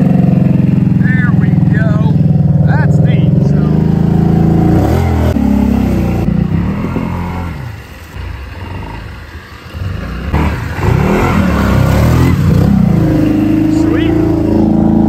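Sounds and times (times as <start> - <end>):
atv engine revving and idling: 0.0 - 15.0.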